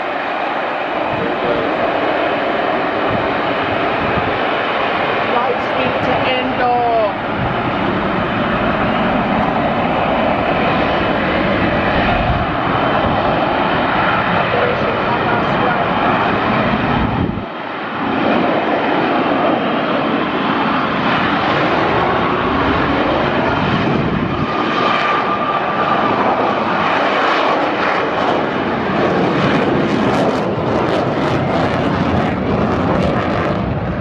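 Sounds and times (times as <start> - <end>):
jet engine running: 0.0 - 34.0.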